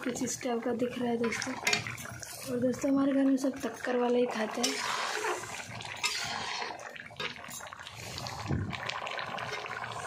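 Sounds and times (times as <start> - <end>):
curry boiling and bubbling: 0.0 - 10.0.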